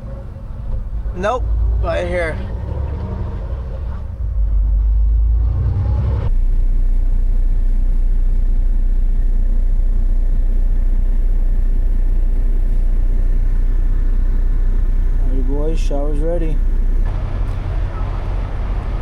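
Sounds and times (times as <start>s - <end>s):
truck engine rumble: 0.0s - 19.0s.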